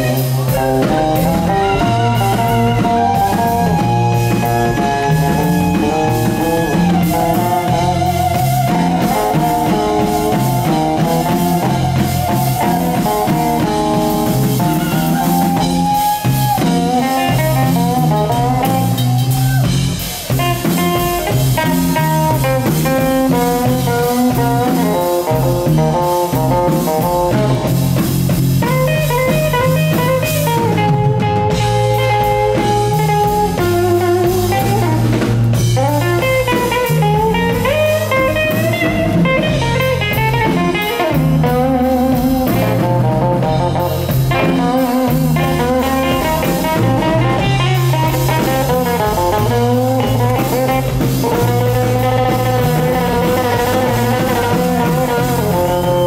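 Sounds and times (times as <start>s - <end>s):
bass: 0.0s - 56.0s
drums: 0.0s - 56.0s
electric guitar lead lines: 0.0s - 56.0s.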